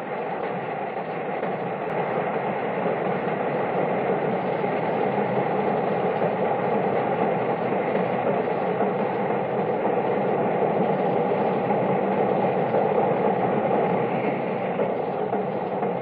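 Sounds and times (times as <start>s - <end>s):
train rumbling and rattling: 0.0s - 16.0s.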